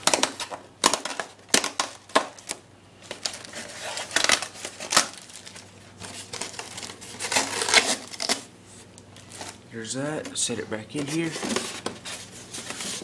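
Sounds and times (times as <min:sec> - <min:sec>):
packaging crinkling and rustling: 0:00.0 - 0:09.6, 0:10.9 - 0:13.0.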